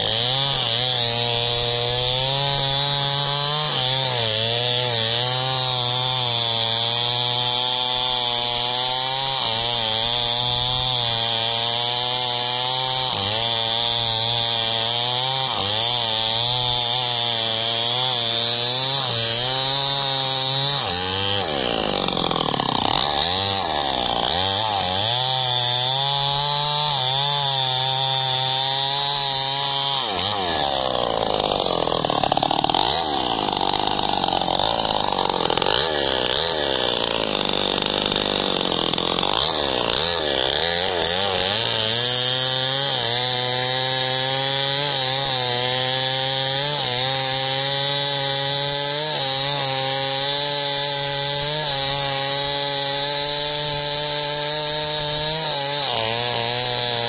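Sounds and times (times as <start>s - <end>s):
chainsaw cutting at full throttle: 0.0s - 57.0s.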